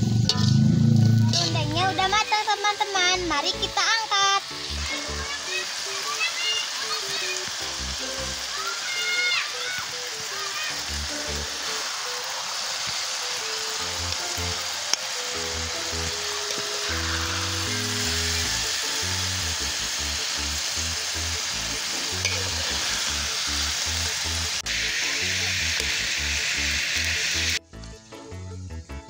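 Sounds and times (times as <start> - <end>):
green beans sizzling in a wok: 0.0 - 29.0.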